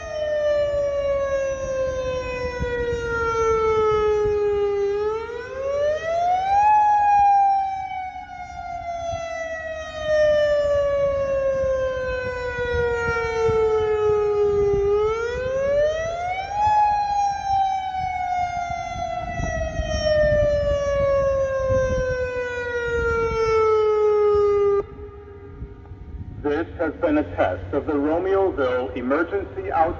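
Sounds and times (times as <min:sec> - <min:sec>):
warning siren wailing: 0:00.0 - 0:29.9.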